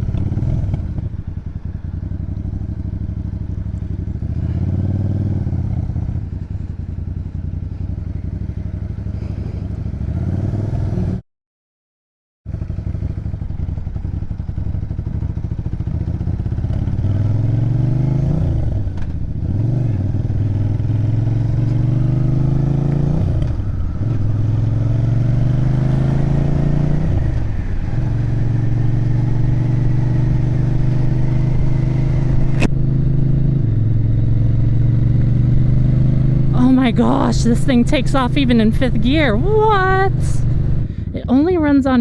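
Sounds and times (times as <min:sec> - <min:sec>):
motorcycle engine accelerating: 0:00.0 - 0:11.2, 0:12.5 - 0:42.0.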